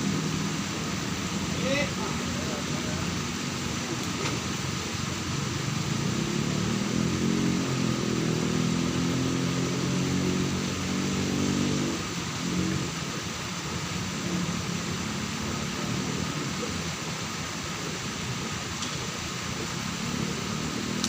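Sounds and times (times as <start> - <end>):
background hiss: 0.0 - 21.0
engine running steadily: 0.0 - 21.0.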